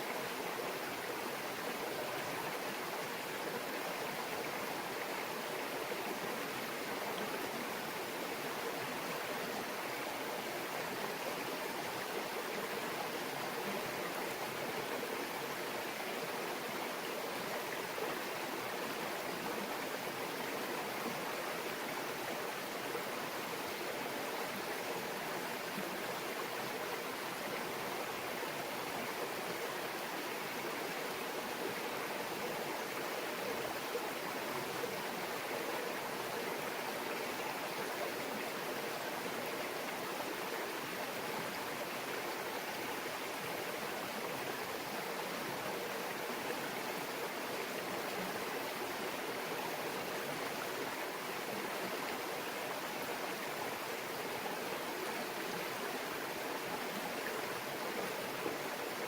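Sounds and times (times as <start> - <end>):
stream babbling over rocks: 0.0 - 59.0.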